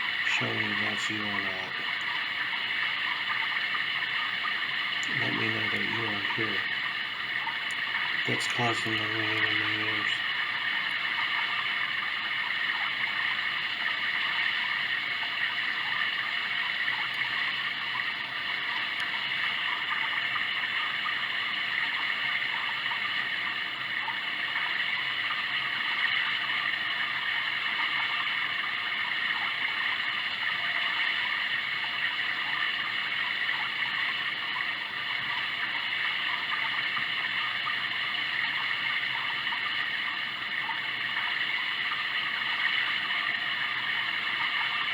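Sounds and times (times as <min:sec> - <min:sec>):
running water stream sound: 0:00.0 - 0:44.9.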